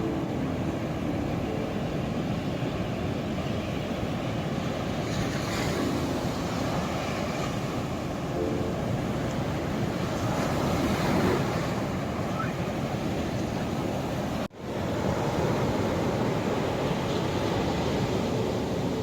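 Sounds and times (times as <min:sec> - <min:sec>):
low rush of waves: 0:00.0 - 0:19.0.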